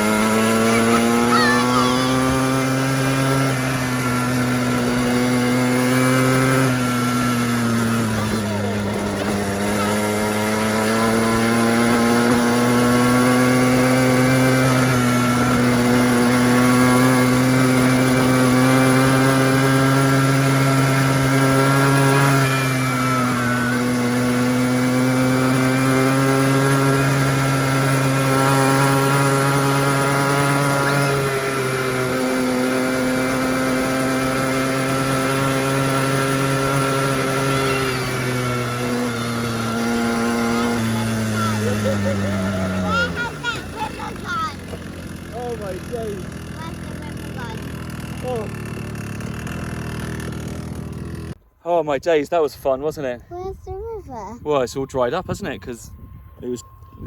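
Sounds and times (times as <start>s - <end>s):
quad bike engine running: 0.0s - 51.5s.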